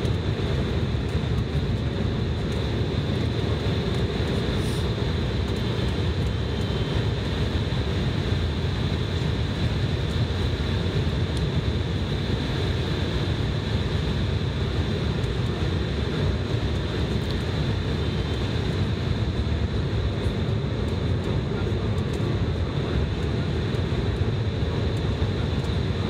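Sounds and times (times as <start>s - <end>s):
jet engines humming: 0.0s - 26.0s.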